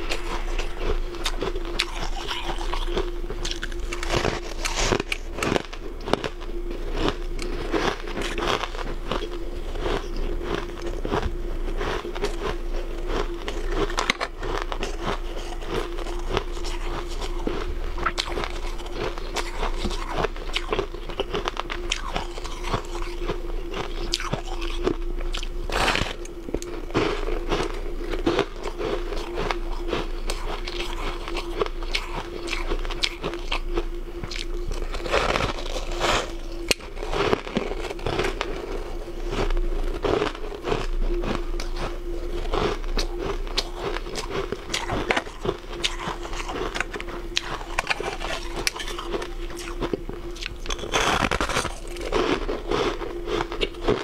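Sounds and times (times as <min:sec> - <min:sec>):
faint hum: 0:00.0 - 0:54.0
ice being chewed: 0:00.0 - 0:54.0.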